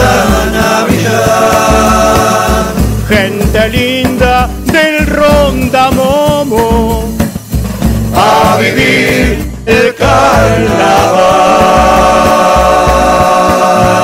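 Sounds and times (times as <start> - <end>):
steady beat: 0.0 - 14.0.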